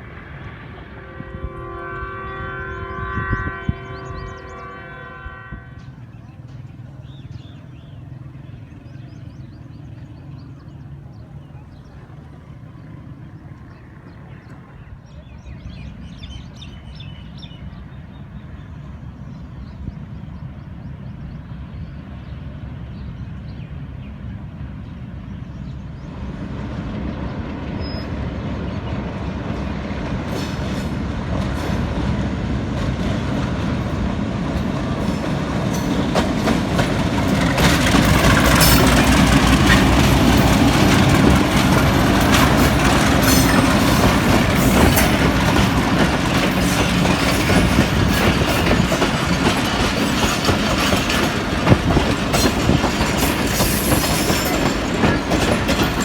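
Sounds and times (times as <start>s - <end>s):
diesel train low rumble: 0.0s - 56.0s.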